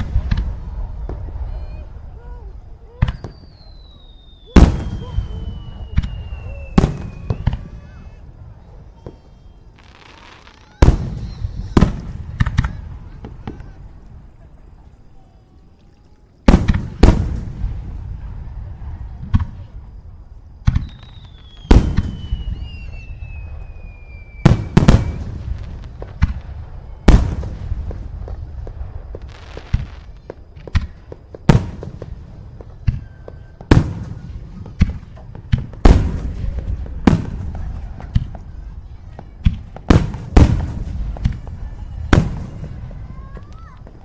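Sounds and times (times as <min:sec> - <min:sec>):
fireworks bangs with rumbling echo: 0:00.0 - 0:15.2, 0:16.4 - 0:44.0
descending firework whistle: 0:00.0 - 0:44.0.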